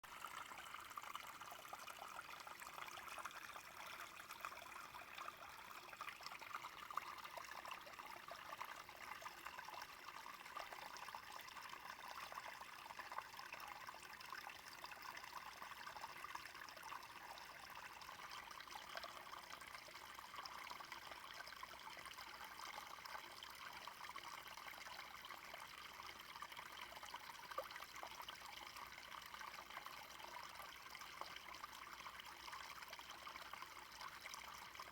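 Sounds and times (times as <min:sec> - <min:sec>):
brook babbling: 0:00.0 - 0:34.9.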